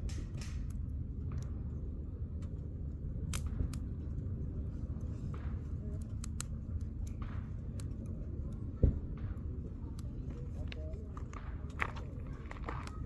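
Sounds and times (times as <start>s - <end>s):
low rumble of fire: 0.0s - 13.0s.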